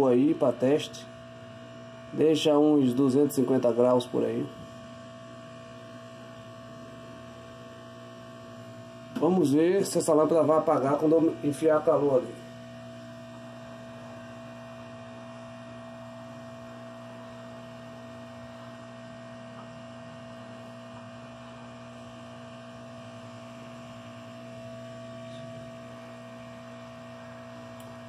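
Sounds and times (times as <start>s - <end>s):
hot air blower humming: 0.0s - 28.0s.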